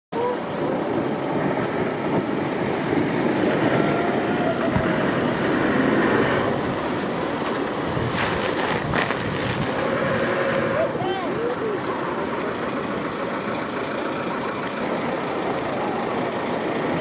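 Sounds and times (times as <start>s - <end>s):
surf and churning water: 0.1s - 17.0s.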